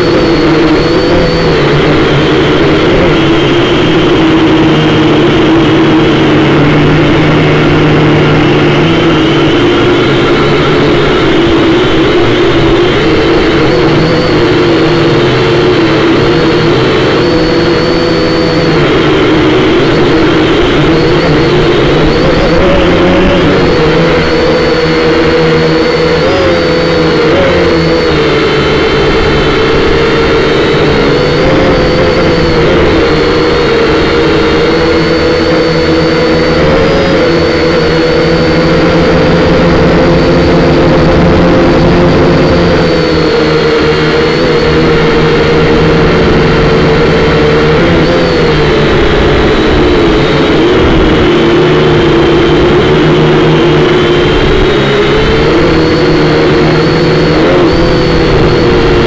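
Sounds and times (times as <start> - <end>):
quadcopter propellers whining: 0.0 - 59.0.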